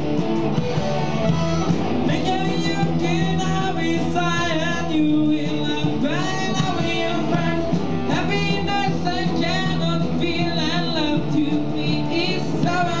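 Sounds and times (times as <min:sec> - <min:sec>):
drums: 0:00.0 - 0:13.0
electric guitars: 0:00.0 - 0:13.0
man singing: 0:01.5 - 0:13.0.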